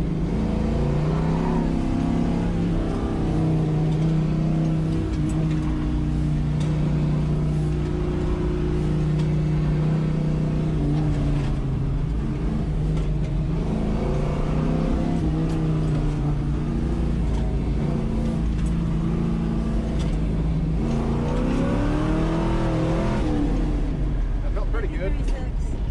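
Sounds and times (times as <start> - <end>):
car engine pulling hard: 0.0 - 25.9.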